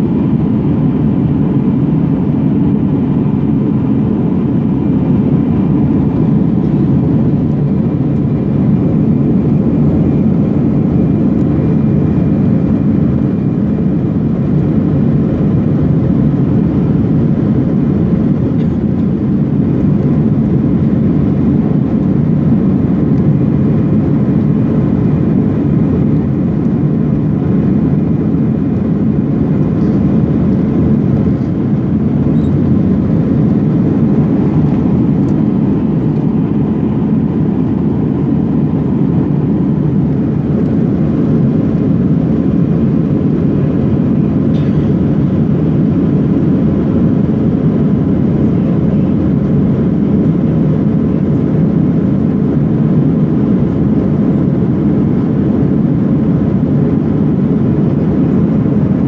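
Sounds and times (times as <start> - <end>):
jet engine rumble and airflow: 0.0 - 59.0.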